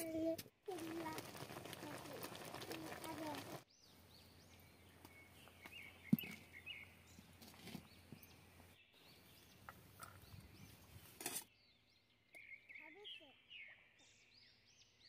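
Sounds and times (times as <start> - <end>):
small birds chirping: 0.7 - 15.0.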